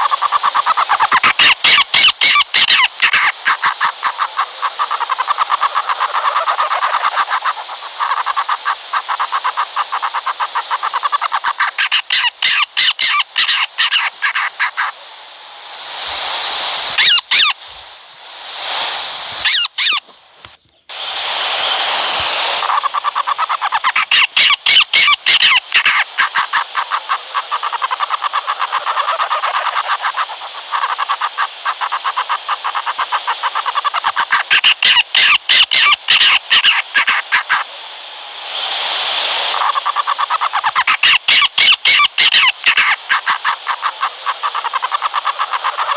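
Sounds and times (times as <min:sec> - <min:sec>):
owl chattering: 0:00.0 - 0:15.0, 0:16.0 - 0:17.7, 0:18.6 - 0:37.8, 0:39.5 - 0:45.9
owl hissing screeches: 0:00.0 - 0:15.0, 0:15.6 - 0:37.7, 0:38.5 - 0:45.9.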